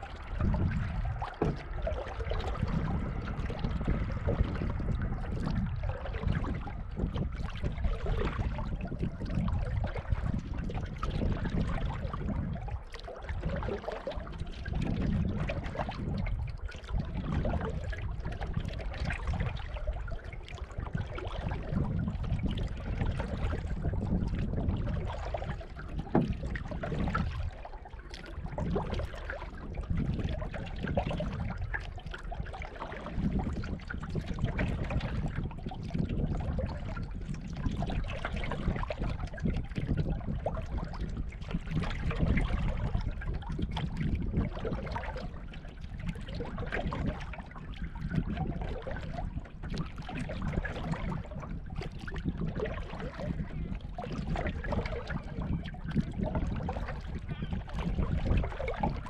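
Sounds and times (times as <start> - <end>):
paddle swishing water: 0.0 - 59.0.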